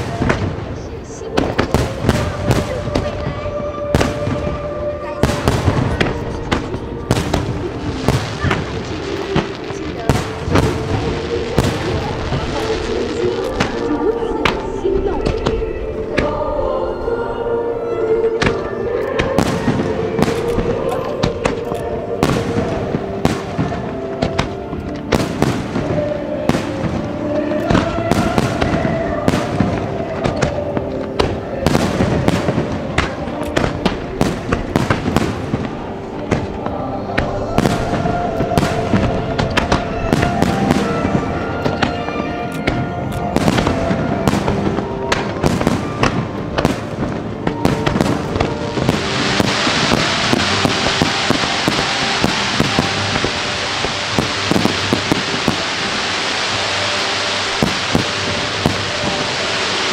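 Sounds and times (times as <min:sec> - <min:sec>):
fireworks bangs and crackles: 0:00.0 - 0:16.8, 0:18.3 - 0:59.9
hissing crackle: 0:00.0 - 0:59.9
music playing: 0:00.0 - 0:59.9.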